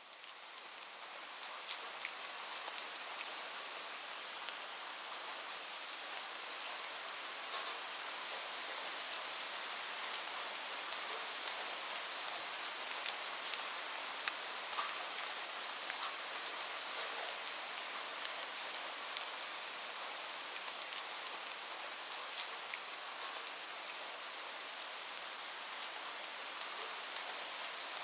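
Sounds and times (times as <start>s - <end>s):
light rain falling: 0.0s - 28.0s.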